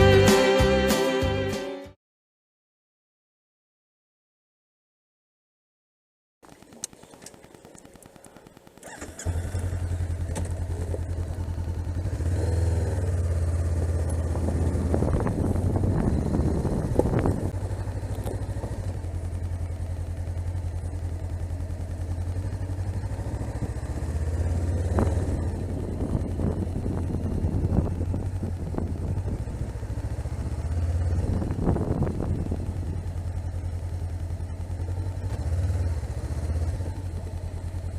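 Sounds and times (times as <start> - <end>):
motorcycle engine idling: 6.5 - 37.9.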